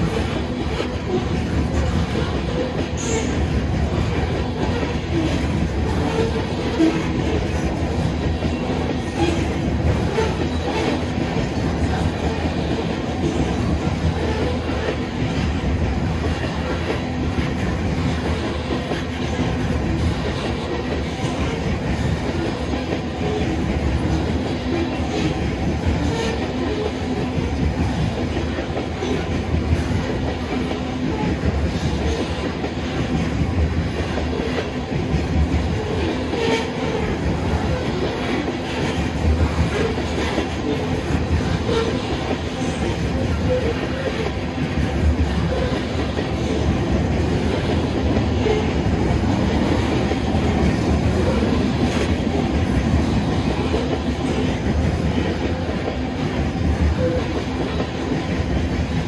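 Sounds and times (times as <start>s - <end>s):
steel wheels on rail: 0.0s - 59.0s.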